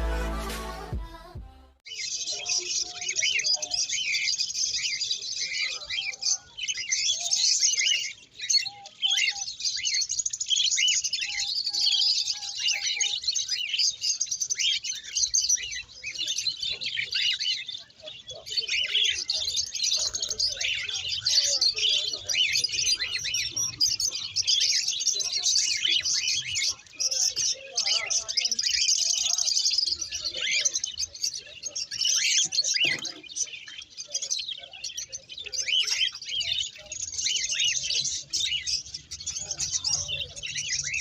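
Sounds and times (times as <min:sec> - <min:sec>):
small birds chirping: 0:01.8 - 0:41.0.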